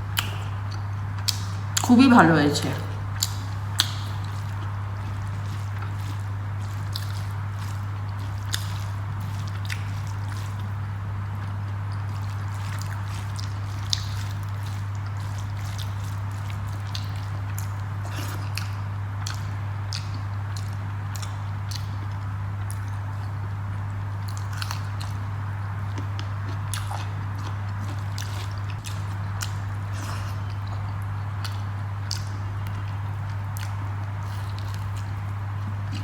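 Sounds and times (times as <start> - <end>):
steady low hum: 0.0 - 36.0
chewing smacks: 0.1 - 1.9, 3.0 - 36.0.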